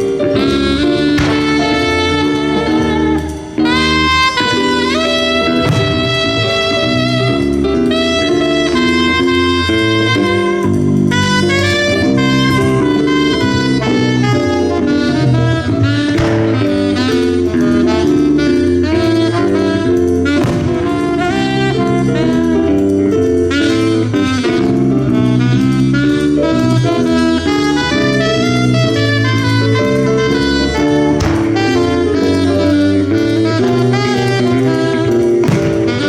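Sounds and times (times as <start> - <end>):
bass line: 0.0 - 36.0
jazz band playing: 0.0 - 36.0.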